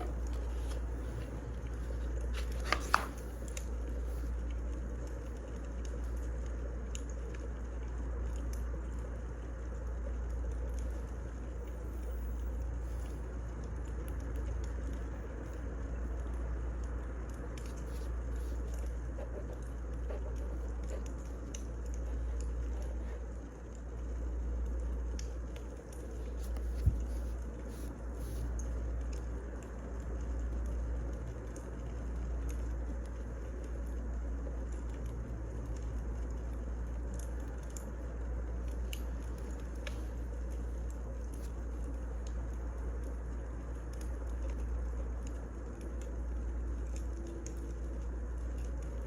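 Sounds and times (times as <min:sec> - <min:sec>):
low steady rumble: 0:00.0 - 0:49.0.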